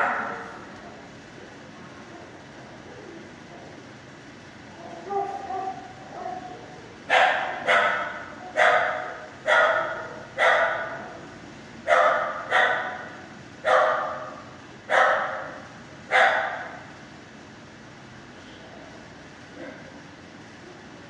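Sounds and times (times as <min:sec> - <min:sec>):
dogs barking in echoing room: 0:00.0 - 0:17.4, 0:18.9 - 0:20.6.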